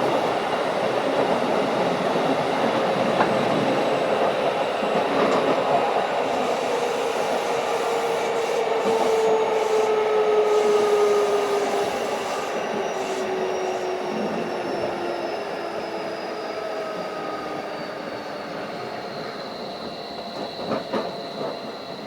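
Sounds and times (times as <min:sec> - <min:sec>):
train motor whine: 0:00.0 - 0:22.0
train wheels rumbling on rails: 0:00.0 - 0:22.0.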